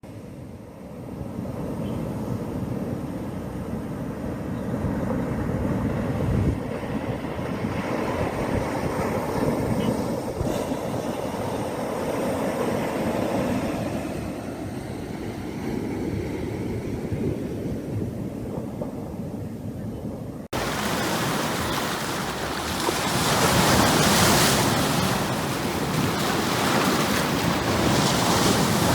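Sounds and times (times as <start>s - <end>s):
ocean waves breaking: 0.9s - 17.3s, 20.5s - 28.9s.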